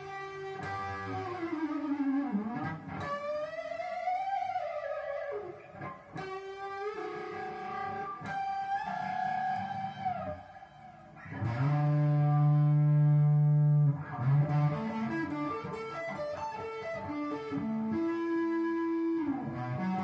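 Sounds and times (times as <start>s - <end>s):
electric guitar lead melody with delay: 0.0s - 20.0s.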